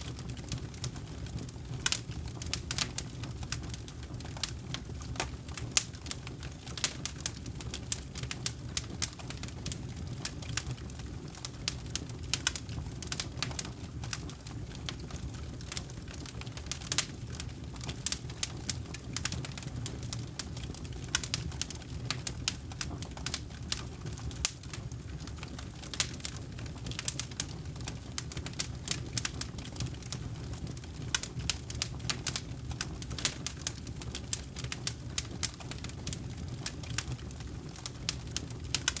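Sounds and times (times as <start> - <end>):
campfire burning and crackling: 0.0 - 39.0.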